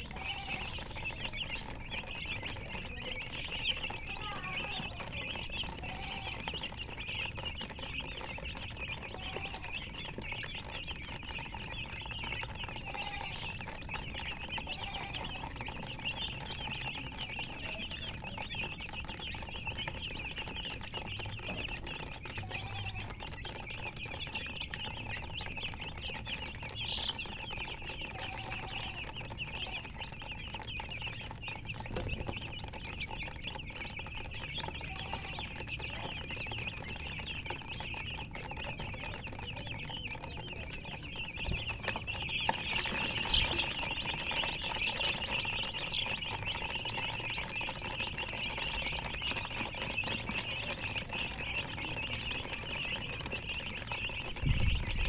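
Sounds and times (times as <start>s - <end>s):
chicks chirping: 0.0s - 55.0s.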